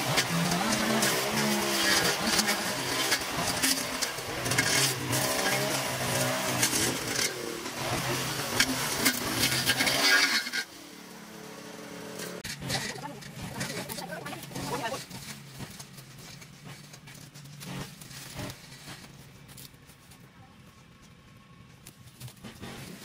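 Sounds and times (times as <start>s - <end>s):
small engine running: 0.0s - 19.7s.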